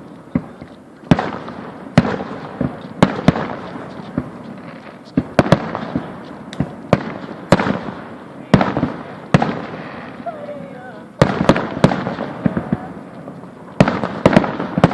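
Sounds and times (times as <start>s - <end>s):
fireworks bangs: 0.0s - 14.9s.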